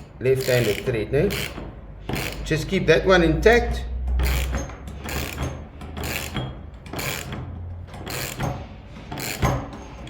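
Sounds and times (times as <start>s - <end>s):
metallic ratcheting of hand tool: 0.0s - 2.8s, 4.2s - 10.0s.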